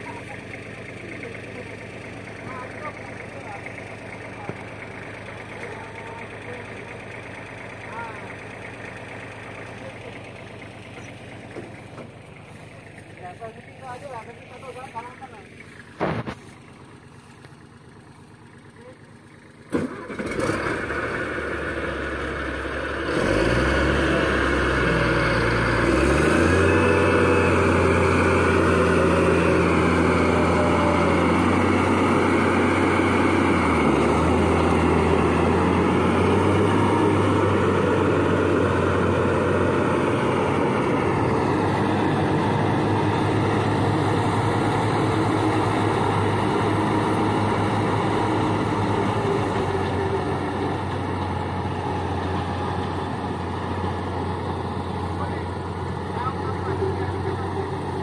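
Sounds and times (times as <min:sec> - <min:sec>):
heavy machinery engine revving: 0:00.0 - 0:58.0.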